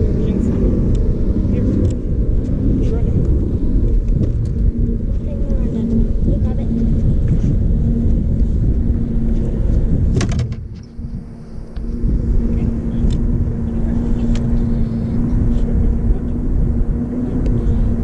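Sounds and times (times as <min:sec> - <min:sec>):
low rumble: 0:00.0 - 0:18.0
motor humming: 0:00.0 - 0:18.0.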